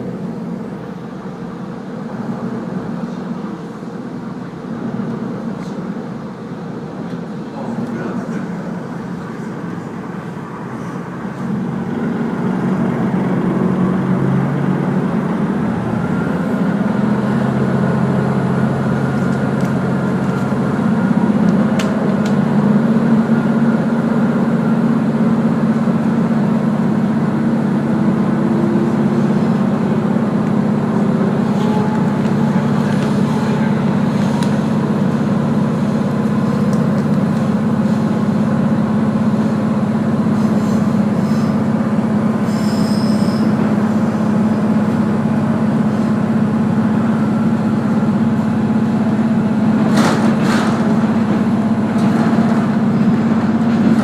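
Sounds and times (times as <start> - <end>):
railcar engine hum: 0.0 - 54.0
wheel and rail running noise: 0.0 - 54.0.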